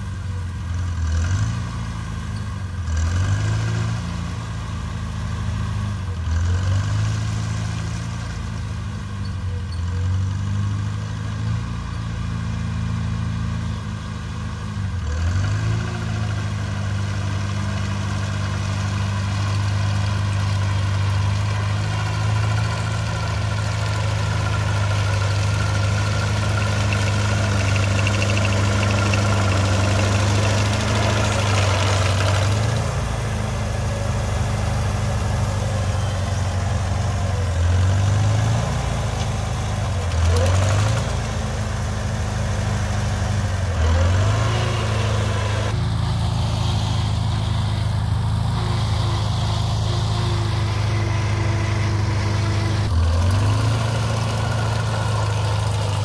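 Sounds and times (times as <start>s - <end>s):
tractor engine running under load: 0.0s - 56.0s.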